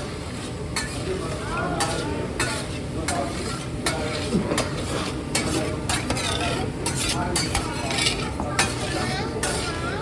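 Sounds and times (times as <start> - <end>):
metal spatulas scraping: 0.4 - 10.0.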